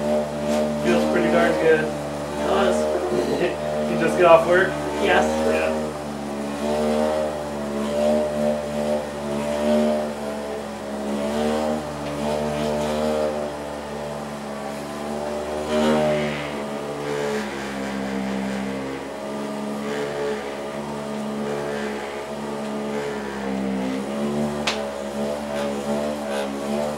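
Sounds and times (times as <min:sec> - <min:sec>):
electric massager motor hum: 0:00.0 - 0:26.9.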